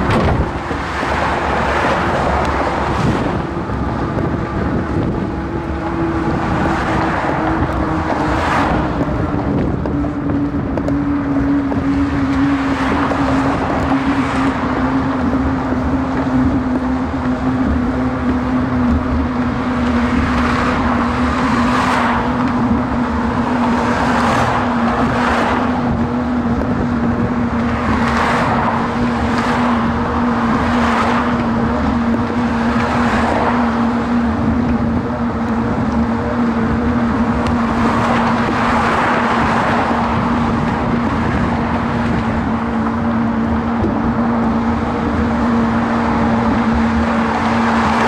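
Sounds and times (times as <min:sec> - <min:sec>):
cars driving past: 0:00.0 - 0:48.0
rush of riding noise: 0:00.0 - 0:48.0.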